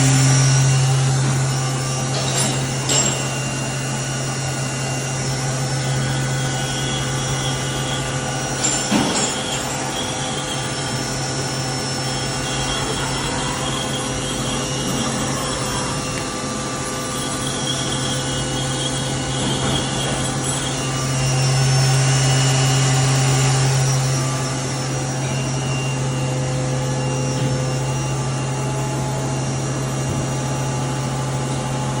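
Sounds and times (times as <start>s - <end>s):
lathe machine hum: 0.0s - 32.0s
machine whining tones: 0.0s - 32.0s.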